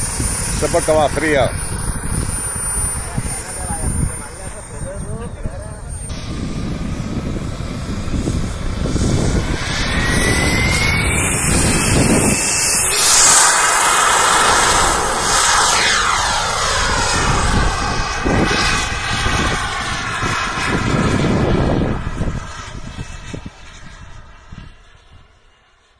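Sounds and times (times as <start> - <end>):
model jet turbine whining: 0.0 - 25.7.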